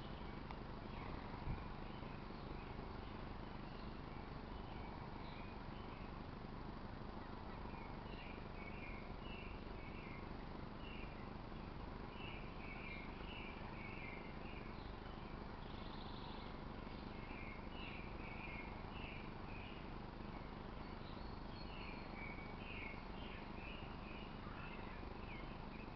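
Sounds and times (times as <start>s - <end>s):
outdoor background hiss: 0.0s - 25.9s.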